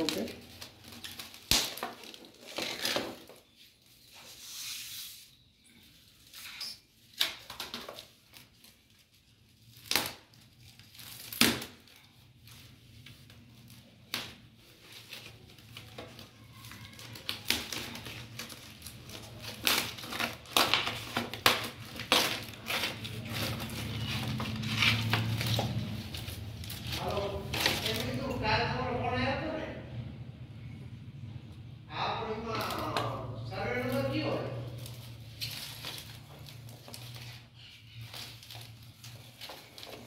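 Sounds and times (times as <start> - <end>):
cardboard tearing and crinkling: 0.0 - 4.6, 6.2 - 28.4, 32.5 - 40.0.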